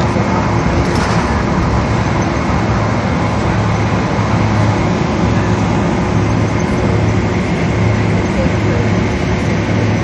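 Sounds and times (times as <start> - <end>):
jet engine roar in cabin: 0.0 - 10.0.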